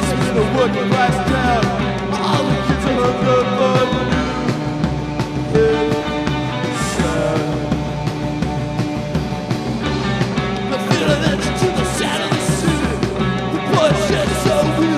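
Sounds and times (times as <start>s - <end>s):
live rock band playing: 0.0s - 14.9s.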